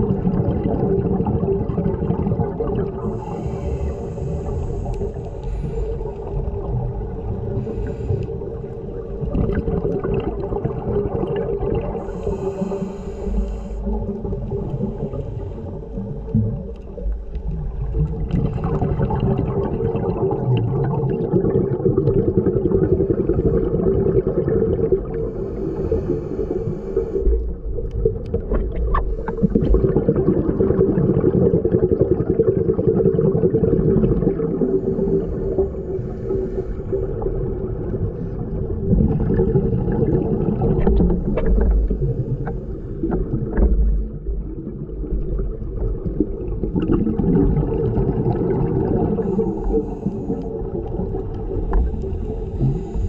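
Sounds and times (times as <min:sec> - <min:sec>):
bubbling and hiss: 0:00.0 - 0:53.0
steady low underwater hum: 0:00.0 - 0:53.0.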